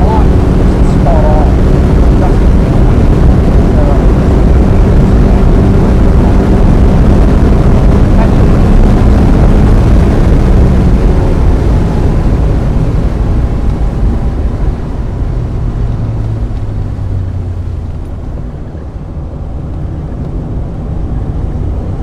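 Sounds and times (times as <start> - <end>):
car engine running hard: 0.0 - 22.0.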